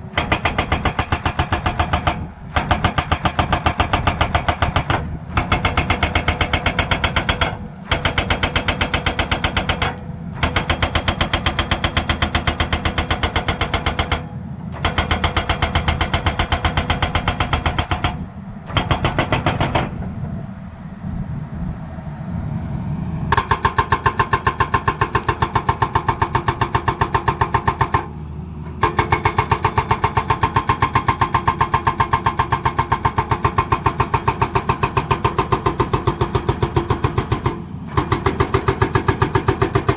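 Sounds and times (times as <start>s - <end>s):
hydraulic breaker hammering: 0.0s - 20.2s, 23.3s - 28.1s, 28.7s - 39.9s
diesel engine running: 0.0s - 39.9s.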